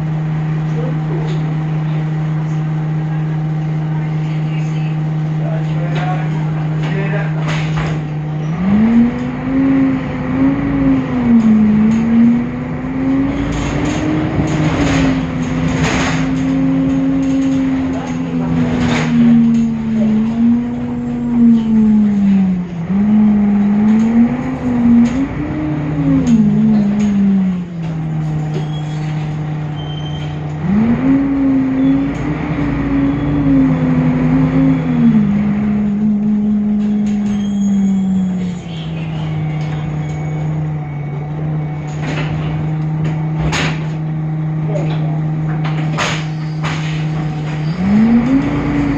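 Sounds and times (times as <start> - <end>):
bus diesel engine running: 0.0 - 48.9.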